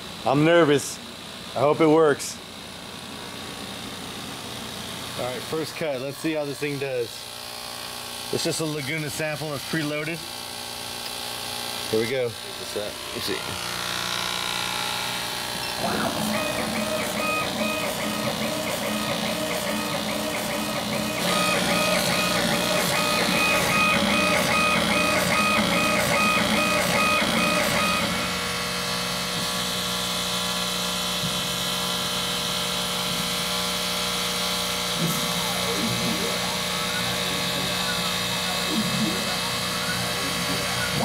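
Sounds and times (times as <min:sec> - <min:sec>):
steady machine hum: 0:00.0 - 0:41.0
laser head drive whining: 0:03.4 - 0:41.0.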